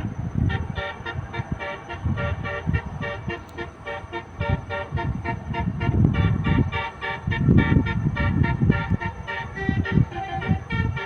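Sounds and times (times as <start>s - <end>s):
musical bus horn tune: 0.0s - 11.0s.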